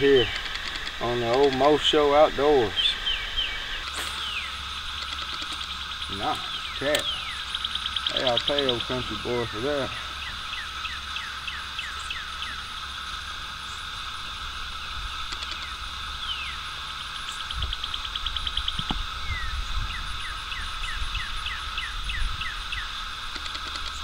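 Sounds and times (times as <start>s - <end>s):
birds chirping: 0.0s - 24.0s
frogs trilling: 0.0s - 24.0s.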